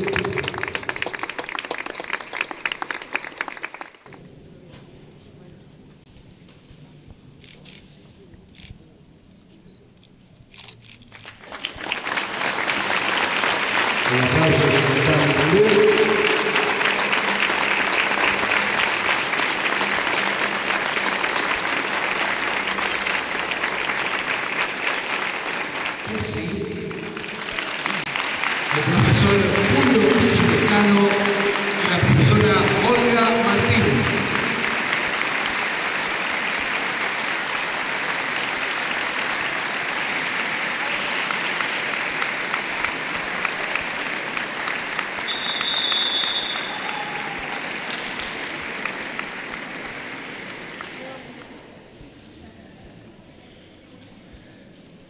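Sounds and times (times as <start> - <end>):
crowd applauding: 0.0 - 4.2, 11.1 - 51.8.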